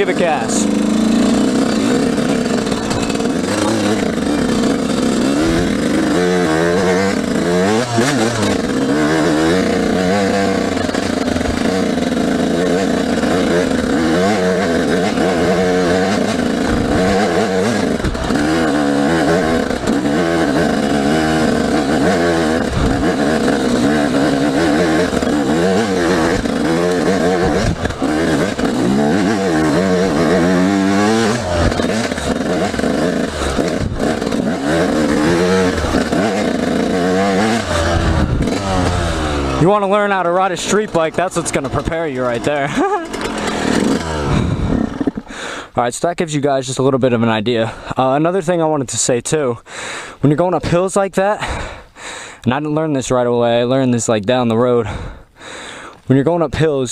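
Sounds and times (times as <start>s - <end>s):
dirt bike engine revving: 0.0s - 45.8s, 51.4s - 52.3s.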